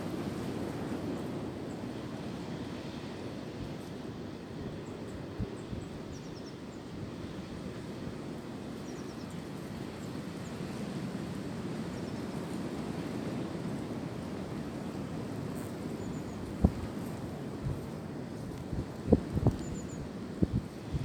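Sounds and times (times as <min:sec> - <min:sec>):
wind through tree branches: 0:00.0 - 0:21.0.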